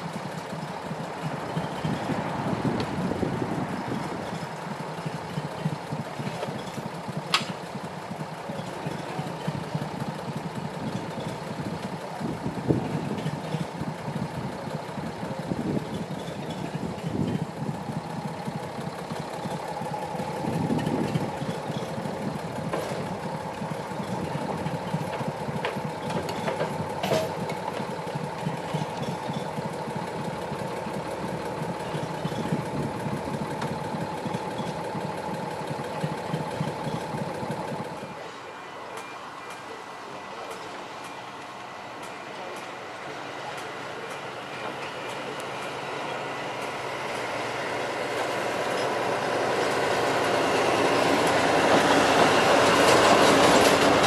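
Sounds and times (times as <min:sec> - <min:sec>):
shovel engine running: 0:00.0 - 0:54.0
steady whine: 0:00.0 - 0:54.0.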